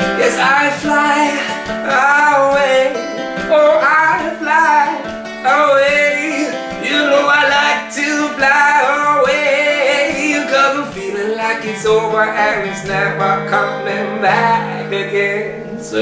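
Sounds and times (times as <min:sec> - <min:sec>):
man singing: 0:00.0 - 0:16.0
strummed acoustic guitar: 0:00.0 - 0:16.0.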